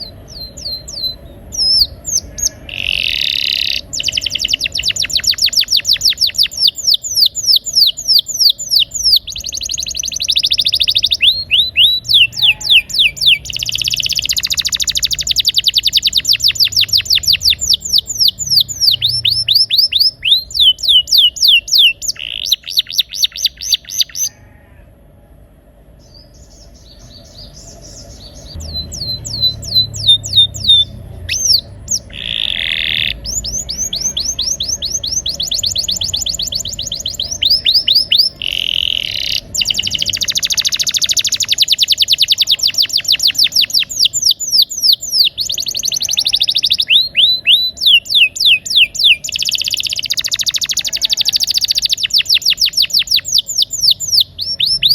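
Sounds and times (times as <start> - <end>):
canary singing trills: 0.0 - 24.5, 25.9 - 54.9.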